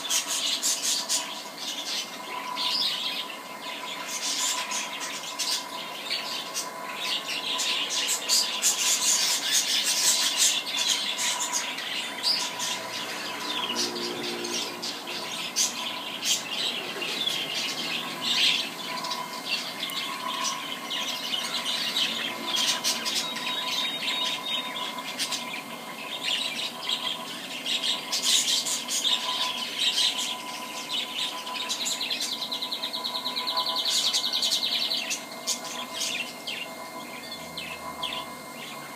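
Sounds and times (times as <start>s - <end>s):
small birds chirping and squawking: 0.0s - 38.9s
steady hum: 0.0s - 38.9s.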